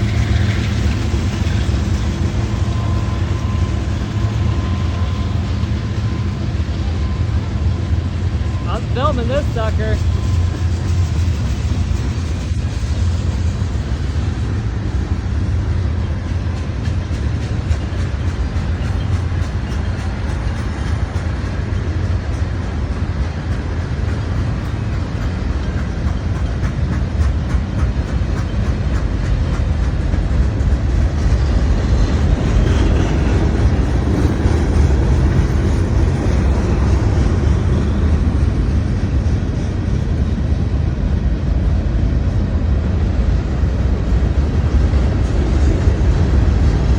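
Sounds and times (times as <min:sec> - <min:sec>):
freight train rumbling: 0:00.0 - 0:46.9.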